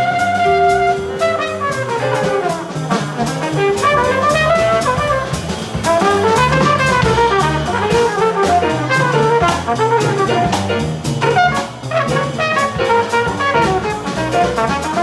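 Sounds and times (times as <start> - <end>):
trumpet solo: 0.0 - 10.6, 11.2 - 15.0
drum kit with cymbals: 0.0 - 15.0
upright bass: 0.0 - 15.0.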